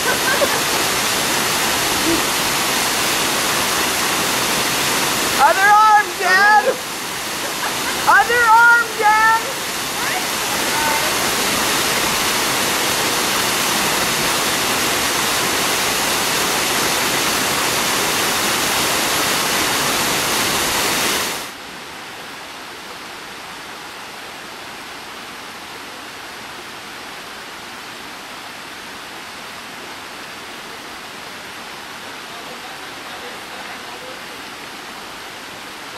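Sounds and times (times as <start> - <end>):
creek water rushing: 0.0 - 35.9.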